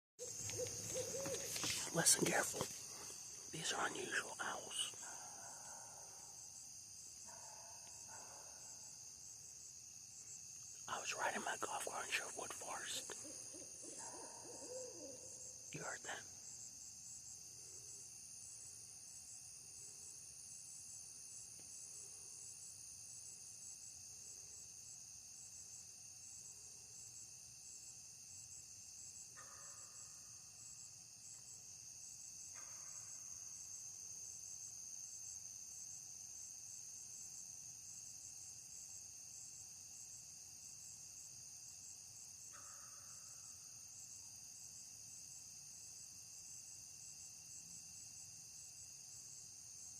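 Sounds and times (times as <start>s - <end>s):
crickets trilling: 0.2s - 49.9s.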